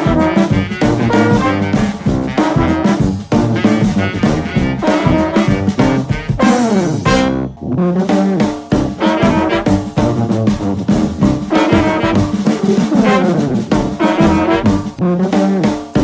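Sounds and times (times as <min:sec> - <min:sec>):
jazzy brass music: 0:00.0 - 0:16.0.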